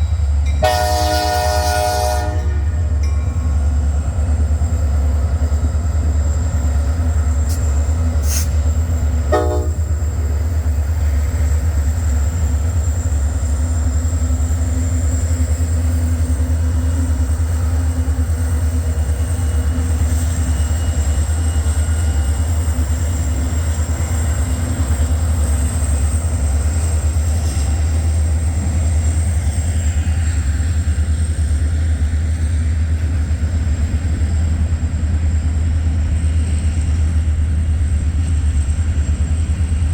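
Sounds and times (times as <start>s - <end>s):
freight train low rumble: 0.0s - 39.9s.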